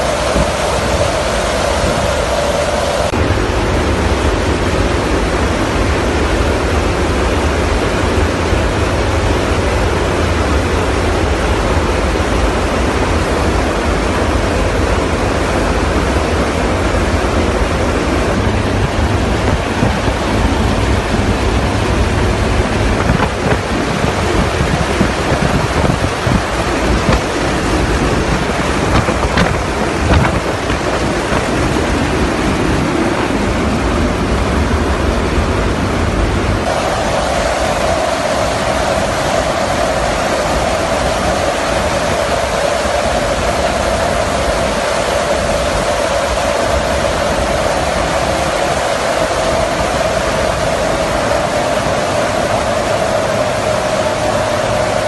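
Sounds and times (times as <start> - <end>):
aircraft rushing noise: 0.0 - 55.0.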